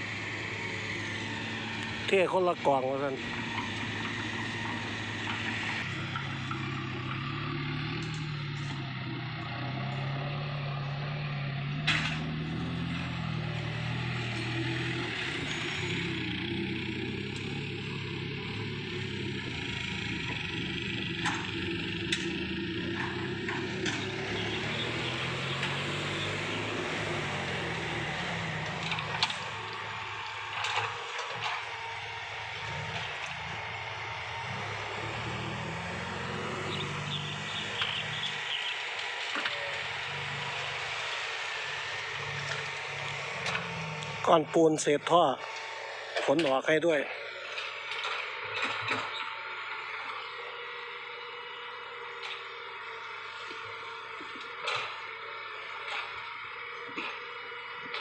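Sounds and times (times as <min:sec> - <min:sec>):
dump truck engine: 0:00.0 - 0:58.0
excavator diesel engine: 0:00.0 - 0:58.0.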